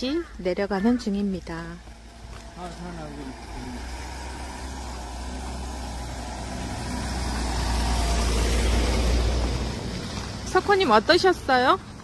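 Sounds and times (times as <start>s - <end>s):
tyres on dirt road: 0.0s - 12.0s
van engine rumble: 0.0s - 12.0s.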